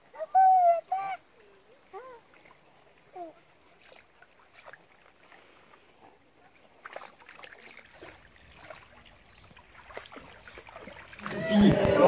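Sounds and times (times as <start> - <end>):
soft splashes: 0.4 - 12.0
dog wading in water: 1.4 - 12.0.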